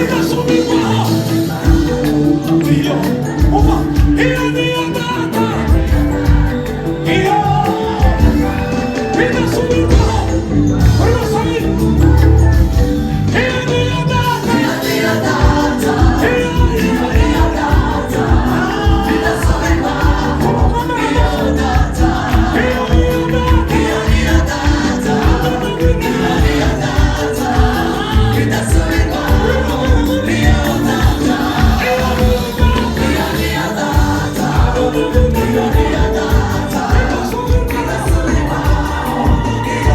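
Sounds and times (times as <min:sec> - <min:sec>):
gospel choir singing: 0:00.0 - 0:39.9
steady beat: 0:00.0 - 0:39.9.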